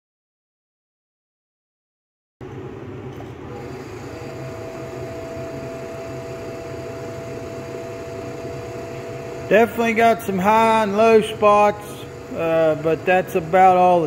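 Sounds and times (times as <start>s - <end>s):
motor-driven chuck humming: 2.4s - 14.0s
steady whining tones: 2.4s - 14.0s.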